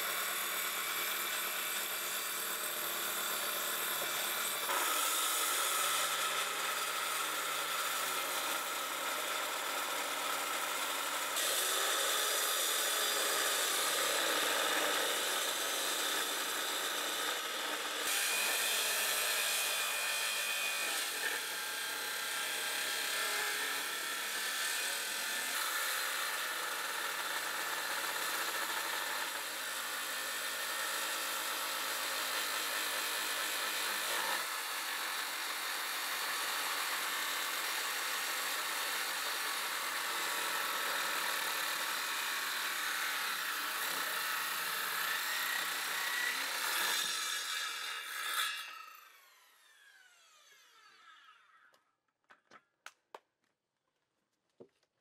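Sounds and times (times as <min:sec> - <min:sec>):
hand sawing wood: 0:00.0 - 0:51.2.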